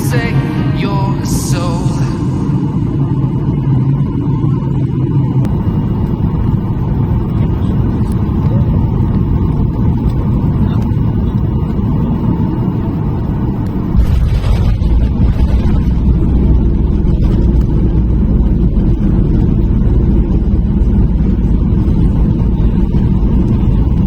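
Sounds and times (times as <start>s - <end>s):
jet engine rumble in cabin: 0.0s - 24.0s.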